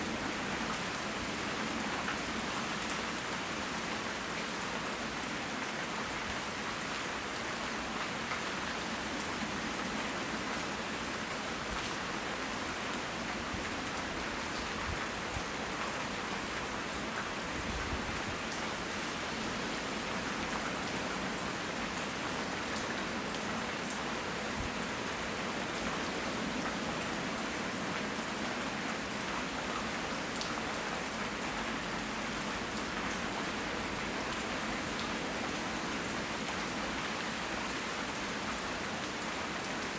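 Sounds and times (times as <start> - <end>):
rain hissing on surfaces: 0.0 - 39.9.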